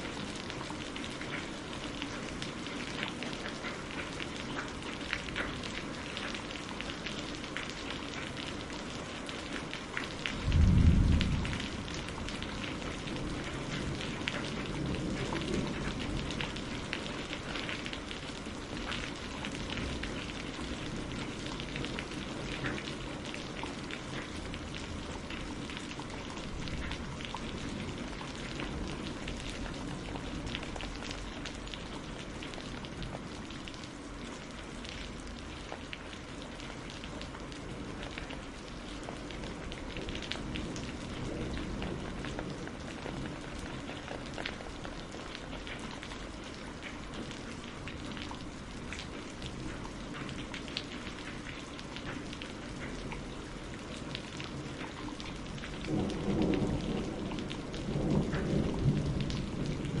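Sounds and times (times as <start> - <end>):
rain falling on a surface: 0.0 - 60.0.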